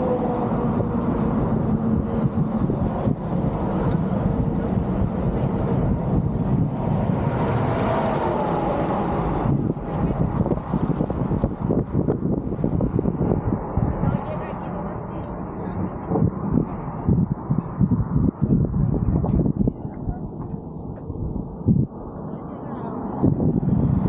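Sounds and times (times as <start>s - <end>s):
road noise rumbling: 0.0s - 24.0s
vehicle engine hum: 0.0s - 24.0s.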